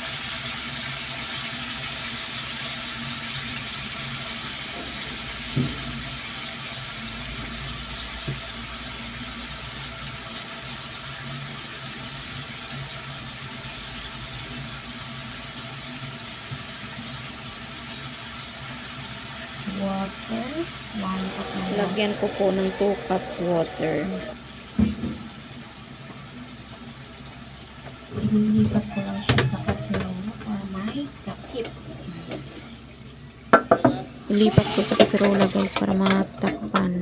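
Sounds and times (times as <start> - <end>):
chicken sizzling in frying pan: 0.0 - 36.9.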